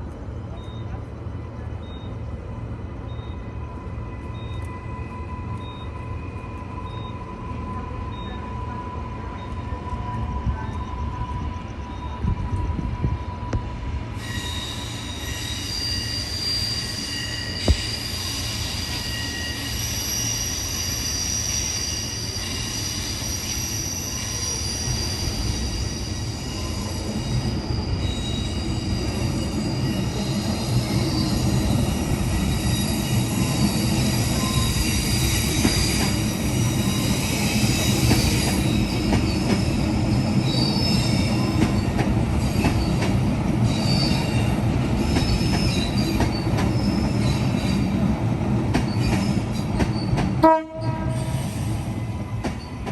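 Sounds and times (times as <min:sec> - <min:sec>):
train low rumble: 0:00.0 - 0:52.9
train wheels squealing: 0:00.4 - 0:52.9.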